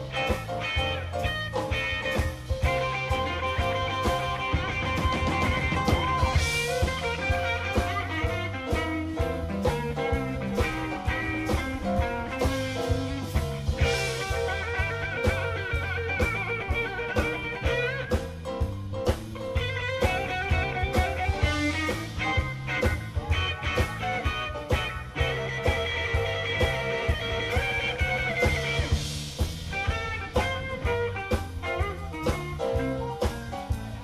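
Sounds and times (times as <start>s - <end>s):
bass guitar line: 0.0s - 34.0s
drum hits: 0.0s - 34.0s
electric guitar: 0.0s - 34.0s
keyboard: 0.0s - 34.0s.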